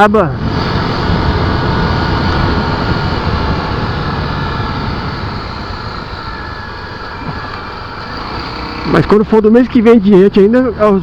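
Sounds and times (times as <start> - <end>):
motorcycle engine running: 0.0 - 11.0
road rush: 0.0 - 11.0.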